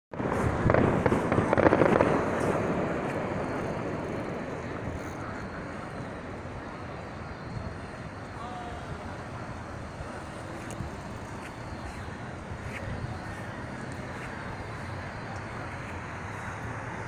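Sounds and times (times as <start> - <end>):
fireworks bangs and crackles: 0.2 - 17.0.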